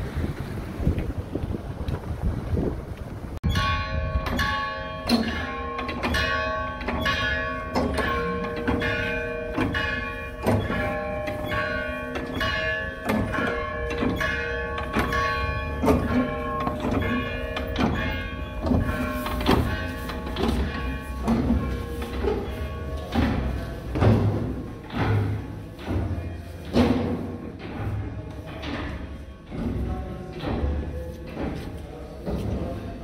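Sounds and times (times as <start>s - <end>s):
church bells pealing: 3.4s - 33.0s.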